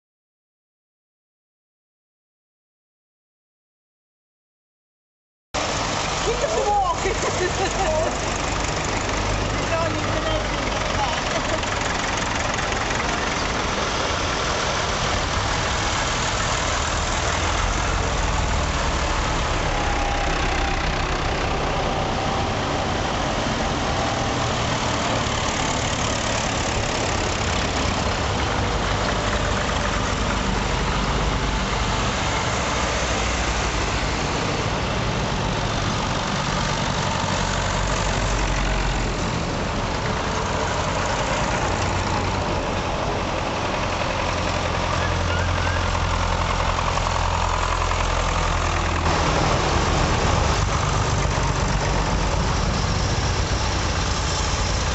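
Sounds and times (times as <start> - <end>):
tractor engines idling: 5.6 - 54.9.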